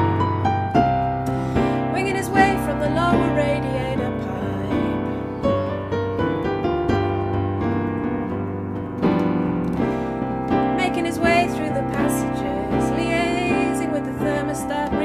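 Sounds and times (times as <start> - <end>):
digital piano chords and bass: 0.0 - 15.0.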